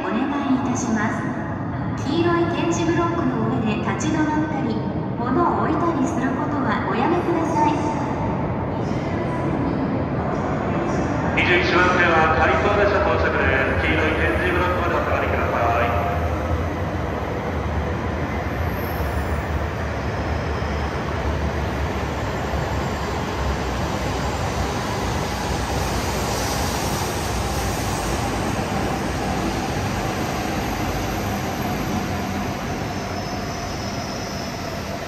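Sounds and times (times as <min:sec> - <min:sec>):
bullet train rushing rumble: 0:00.0 - 0:35.0.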